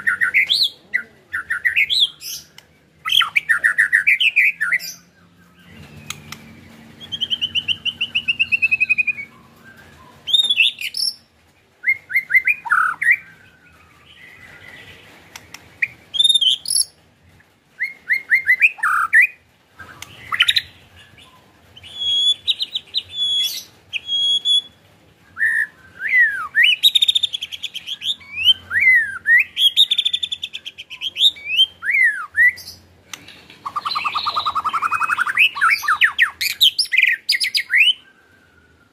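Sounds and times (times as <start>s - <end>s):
bird singing whistles and rattles: 1.4s - 17.0s, 17.8s - 38.9s.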